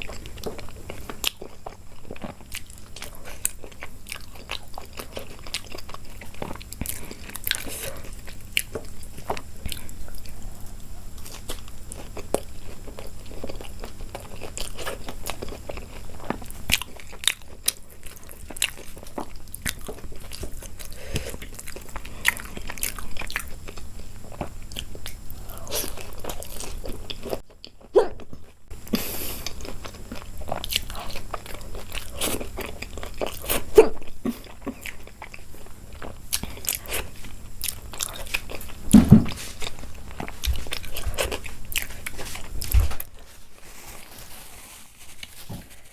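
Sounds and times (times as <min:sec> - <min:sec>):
person chewing and crunching: 0:00.0 - 0:45.9.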